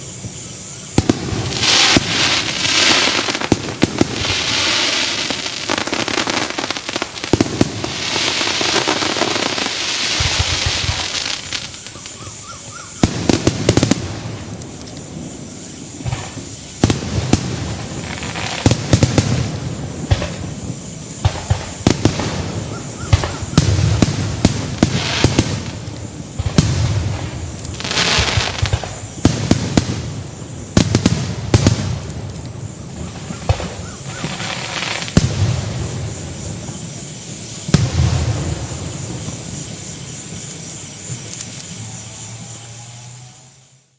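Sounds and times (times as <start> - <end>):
fireworks bursting with bangs: 0.0 - 43.9
fireworks crackling: 0.0 - 43.9.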